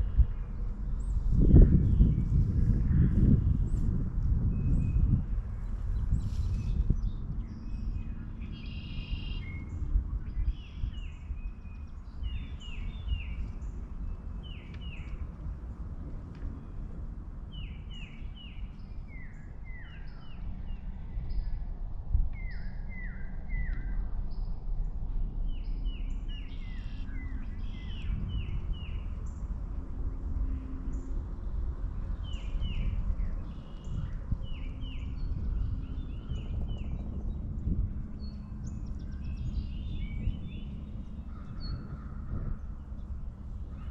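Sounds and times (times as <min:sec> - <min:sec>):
songbirds chirping: 0:00.0 - 0:43.9
steady low rumble: 0:00.0 - 0:43.9.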